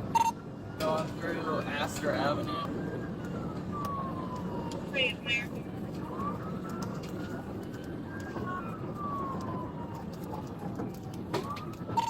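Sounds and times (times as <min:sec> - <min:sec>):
car road and engine noise: 0:00.0 - 0:12.0
police siren wailing: 0:00.0 - 0:12.0.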